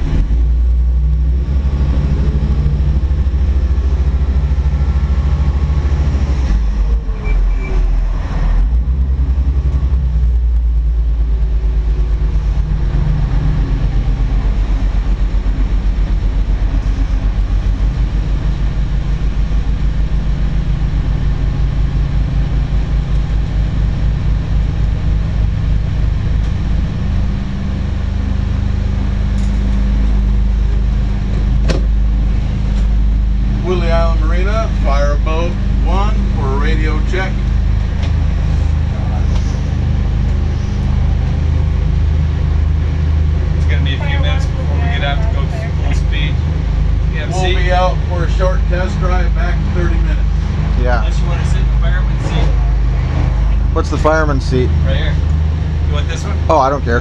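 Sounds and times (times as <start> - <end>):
marine diesel engines rumbling: 0.0 - 57.0.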